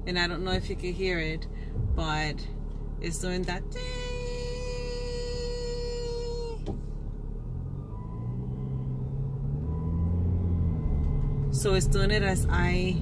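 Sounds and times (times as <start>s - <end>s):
car engine pulling away: 0.0s - 13.0s.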